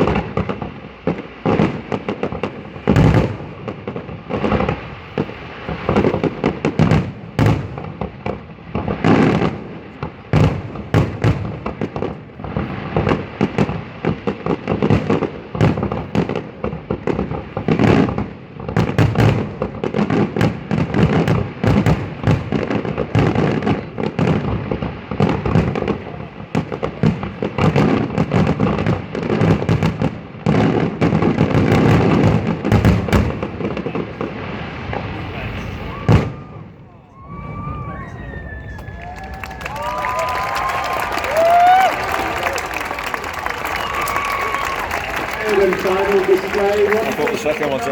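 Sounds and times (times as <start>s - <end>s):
fireworks bursts and crackle: 0.0s - 47.9s.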